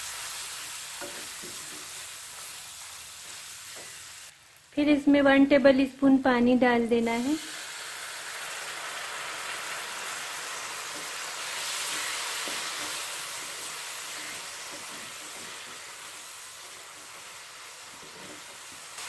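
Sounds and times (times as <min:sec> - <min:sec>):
masala sizzling in hot oil: 0:00.0 - 0:19.0.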